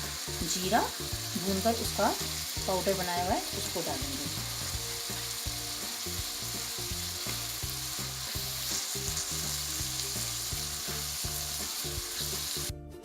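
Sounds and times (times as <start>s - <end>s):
food sizzling in a pan: 0.0s - 12.7s.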